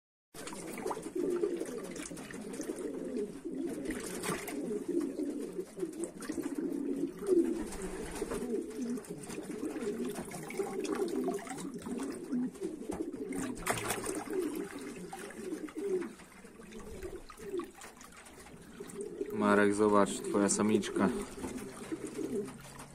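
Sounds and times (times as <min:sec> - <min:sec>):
pigeons cooing: 0:00.4 - 0:22.9.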